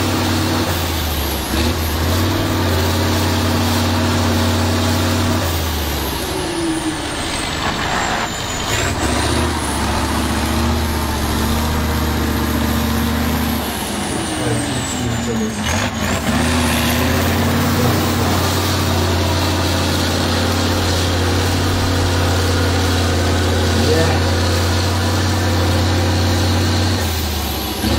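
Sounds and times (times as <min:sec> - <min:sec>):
diesel truck engine under load: 0:00.0 - 0:27.9.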